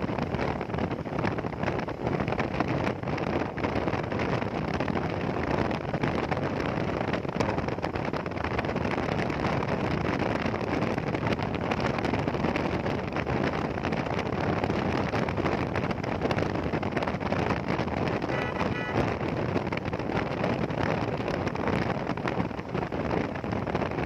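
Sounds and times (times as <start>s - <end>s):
motorcycle engine and road noise: 0.0s - 24.0s
wind on microphone: 0.0s - 24.0s.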